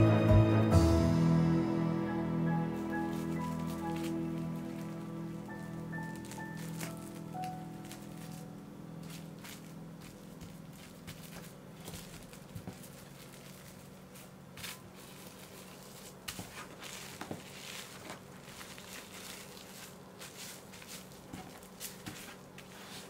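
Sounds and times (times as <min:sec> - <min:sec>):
plastic cling wrap crinkling: 0:02.5 - 0:23.0.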